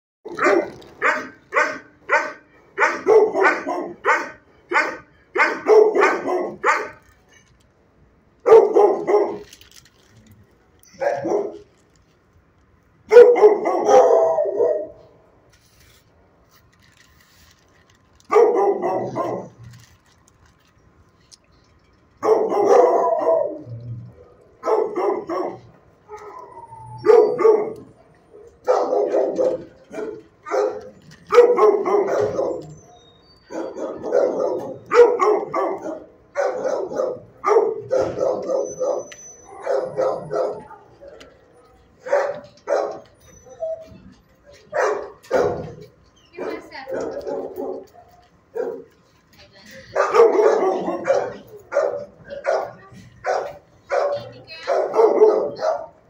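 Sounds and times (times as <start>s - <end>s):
dogs barking: 0.2s - 7.1s, 8.4s - 9.6s, 10.9s - 11.7s, 13.1s - 15.2s, 18.2s - 19.7s, 22.2s - 49.0s, 49.8s - 56.0s.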